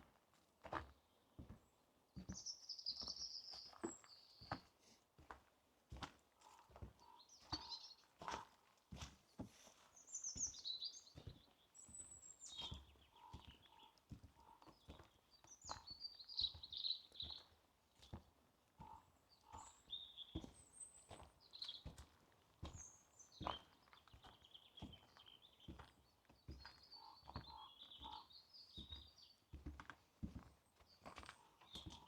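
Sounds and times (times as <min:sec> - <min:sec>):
footsteps on forest path: 0:00.0 - 0:32.0
small birds chirping: 0:00.9 - 0:05.0, 0:06.4 - 0:32.0.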